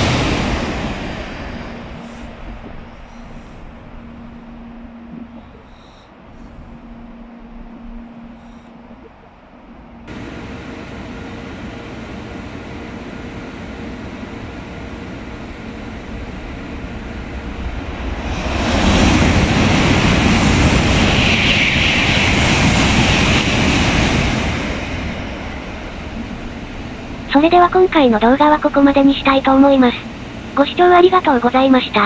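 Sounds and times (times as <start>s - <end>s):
high-speed train passing: 0.0s - 32.0s.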